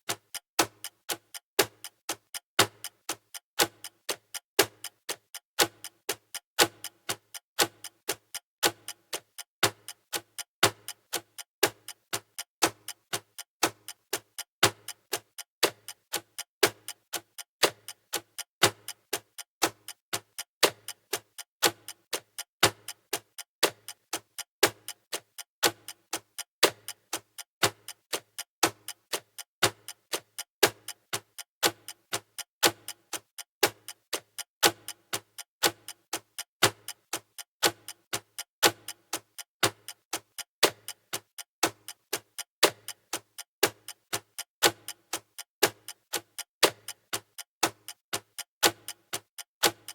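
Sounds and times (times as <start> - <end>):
clock ticking: 0.0 - 49.9.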